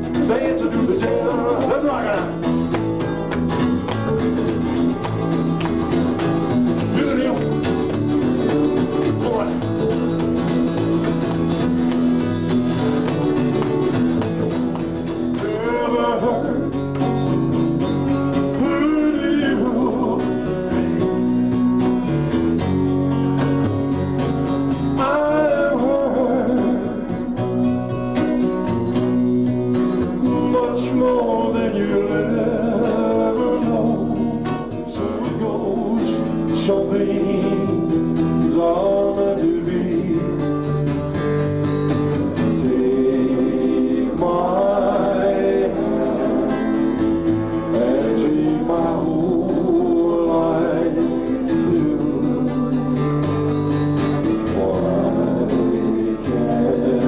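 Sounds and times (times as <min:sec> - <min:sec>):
man singing: 0:00.0 - 0:02.8, 0:06.4 - 0:11.6, 0:12.8 - 0:21.5, 0:24.8 - 0:41.2, 0:42.0 - 0:57.0
acoustic guitar strummed: 0:00.0 - 0:57.0
upright bass plucked: 0:00.0 - 0:57.0.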